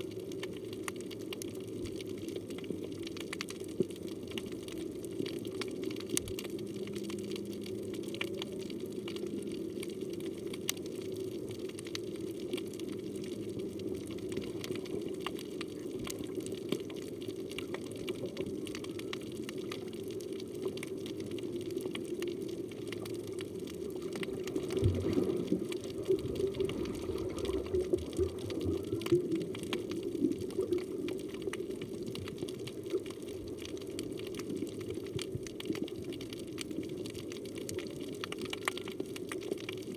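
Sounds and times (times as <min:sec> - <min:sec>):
underwater rush of water: 0:00.0 - 0:39.9.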